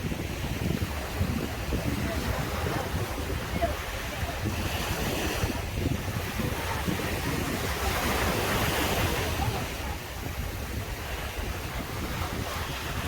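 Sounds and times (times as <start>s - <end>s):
sea waves breaking: 0.0s - 13.0s
wind on microphone: 0.0s - 13.0s.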